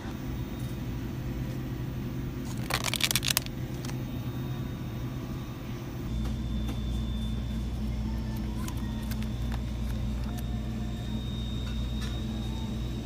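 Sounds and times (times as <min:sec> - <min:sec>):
refrigerated cases humming: 0:00.0 - 0:13.0.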